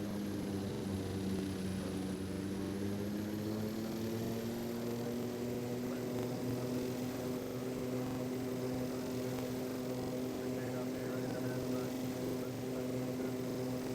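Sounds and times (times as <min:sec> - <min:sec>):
aeroplane engines humming and whining: 0:00.0 - 0:13.9.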